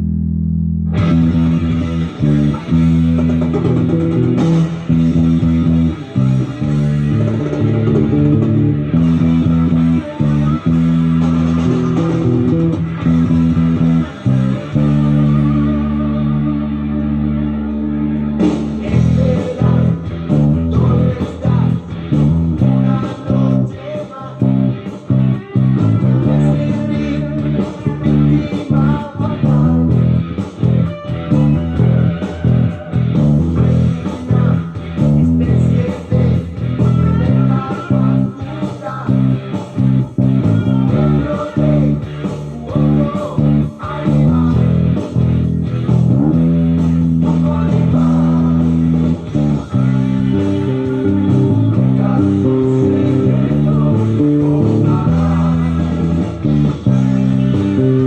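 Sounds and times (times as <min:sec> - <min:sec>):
electric bass guitar riff: 0:00.0 - 0:58.0.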